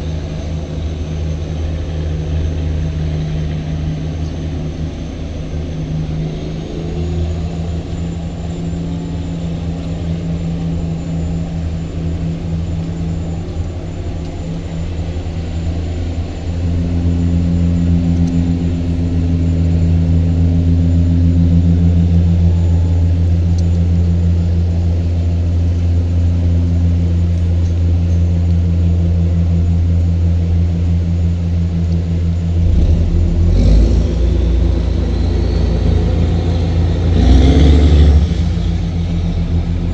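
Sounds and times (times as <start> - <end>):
boat diesel engine running: 0.0 - 39.9.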